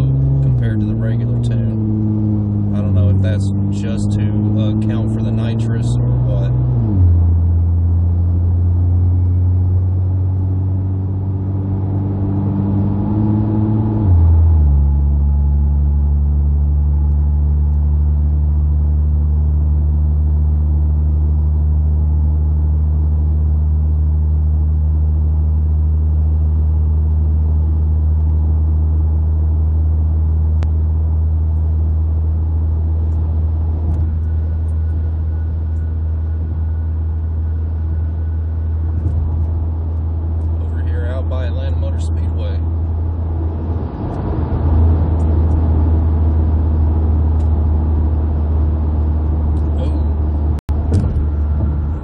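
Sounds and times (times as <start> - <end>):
car engine drone: 0.0 - 52.0.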